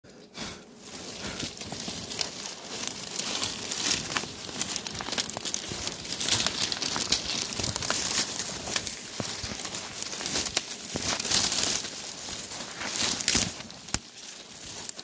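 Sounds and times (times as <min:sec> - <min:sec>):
dry leaves and twigs rustling: 0:00.1 - 0:15.0.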